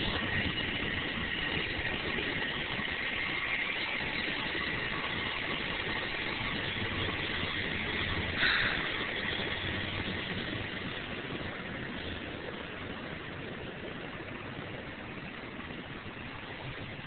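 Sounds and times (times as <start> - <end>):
cable car rumbling hum: 0.0 - 17.0
faint high whine: 0.0 - 17.0.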